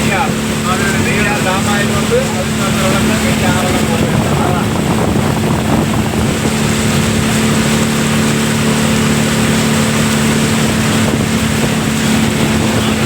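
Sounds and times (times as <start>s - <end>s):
motorboat engine droning: 0.0s - 13.0s
water rushing: 0.0s - 13.0s
wind: 0.0s - 13.0s.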